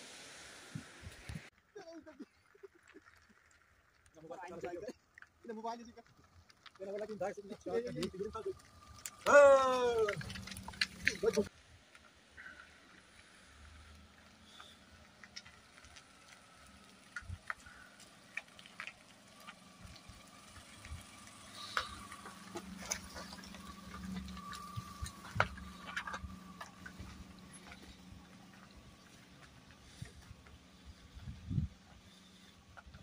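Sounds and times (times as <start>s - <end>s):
tyres crackling on wet road: 0.0s - 33.0s
car engine hum passing: 6.1s - 33.0s.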